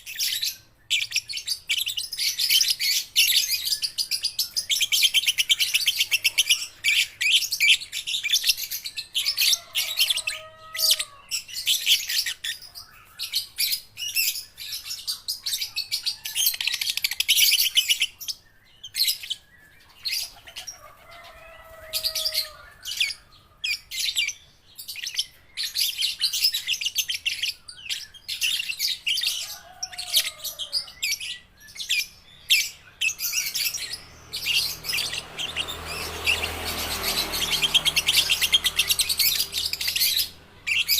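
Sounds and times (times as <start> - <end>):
lovebirds chattering in high chirps: 0.0 - 40.9.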